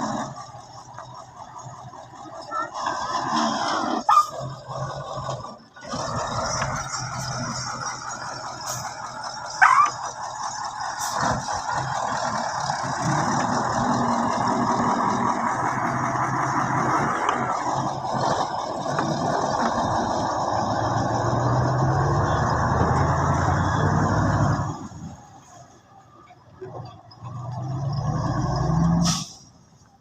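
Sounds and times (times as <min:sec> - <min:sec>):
truck diesel engine running: 0:00.0 - 0:30.0.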